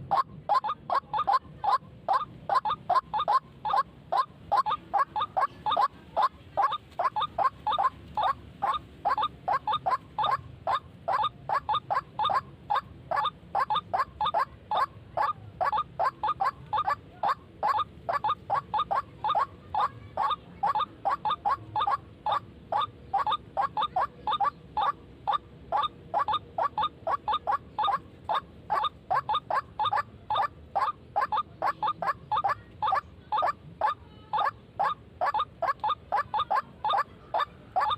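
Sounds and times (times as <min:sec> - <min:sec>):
waterhen harsh calls: 0:00.0 - 0:37.9.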